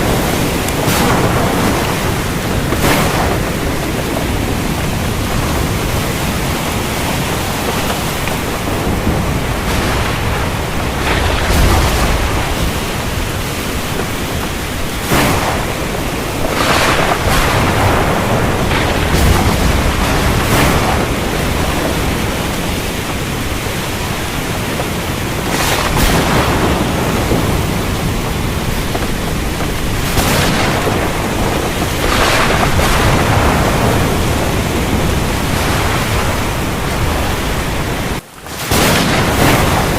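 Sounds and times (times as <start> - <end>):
heavy rain falling: 0.0 - 39.9
thunder cracks and rumbles: 0.0 - 39.9.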